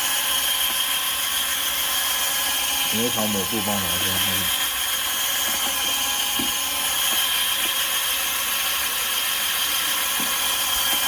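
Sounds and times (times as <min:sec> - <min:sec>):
cordless screwdriver motor whine: 0:00.0 - 0:11.0.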